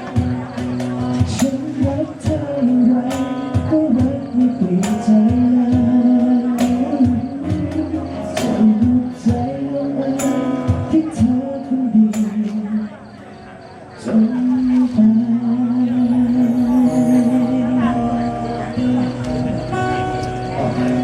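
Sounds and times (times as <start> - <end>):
live band playing pop ballad: 0.0 - 13.0, 13.7 - 21.0.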